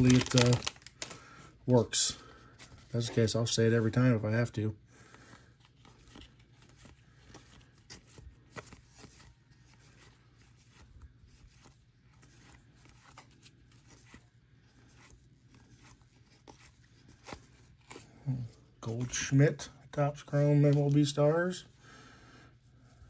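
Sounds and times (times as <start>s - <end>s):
cards rustling and flicking: 0.0s - 3.6s, 5.0s - 19.4s, 20.2s - 21.7s.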